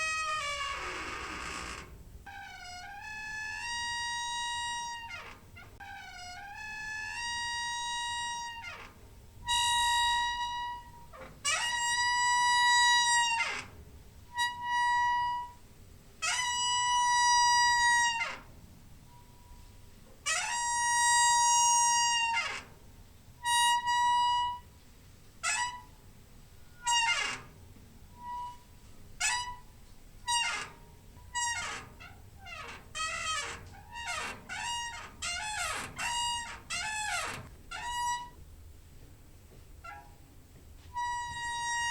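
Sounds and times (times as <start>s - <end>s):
squeaky door hinge squealing: 0.0s - 15.6s, 16.2s - 18.5s, 19.1s - 22.8s, 23.4s - 24.7s, 25.4s - 26.0s, 26.6s - 38.4s, 39.8s - 40.3s, 40.9s - 41.9s.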